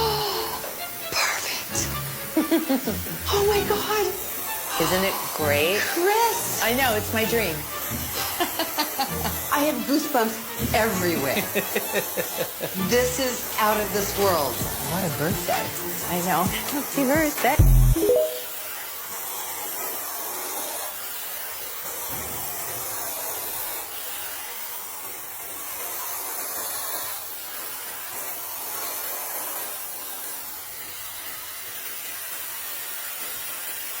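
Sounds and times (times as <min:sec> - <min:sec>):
garment steamer hissing: 0:00.0 - 0:34.0.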